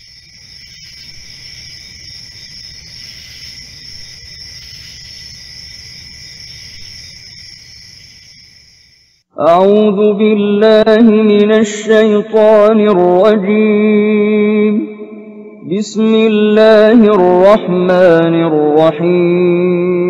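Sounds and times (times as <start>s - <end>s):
crickets chirping: 0.0s - 9.3s, 11.8s - 18.9s.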